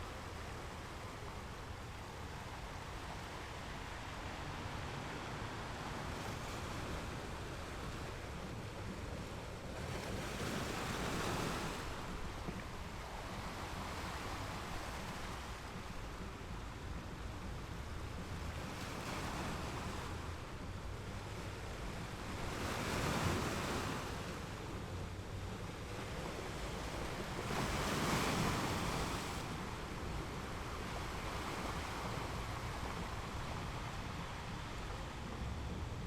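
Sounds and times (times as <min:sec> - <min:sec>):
ocean waves washing in: 0:00.0 - 0:36.0
waves surging and breaking: 0:00.0 - 0:36.0.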